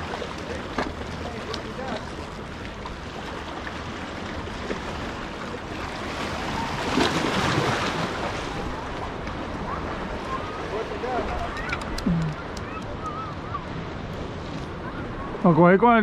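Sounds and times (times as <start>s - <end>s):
waves washing against boulders: 0.0s - 16.0s.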